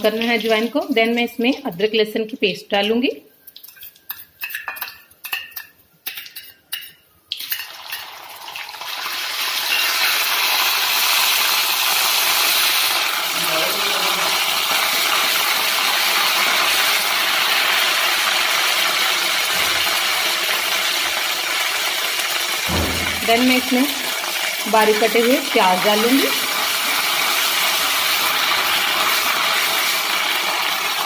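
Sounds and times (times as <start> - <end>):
paste sizzling in hot oil: 3.4 - 31.0.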